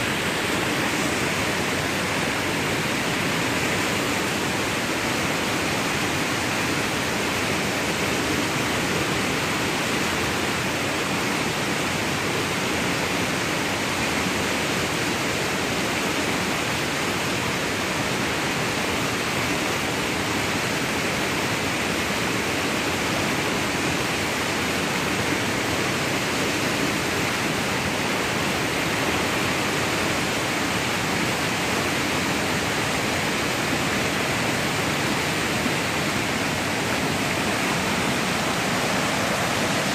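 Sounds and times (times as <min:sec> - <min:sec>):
river rushing through rapids: 0:00.0 - 0:39.9.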